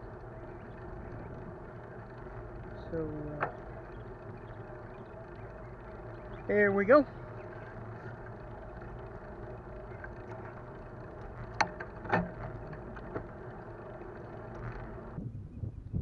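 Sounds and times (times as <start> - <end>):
bicycle rolling on pavement: 0.0 - 15.3.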